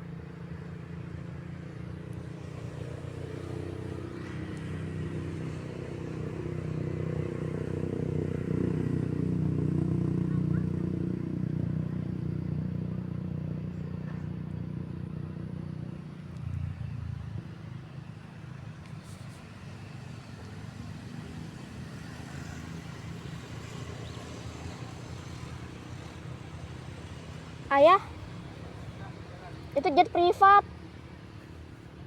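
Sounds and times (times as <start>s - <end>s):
rumble of engines and traffic: 0.0s - 32.0s.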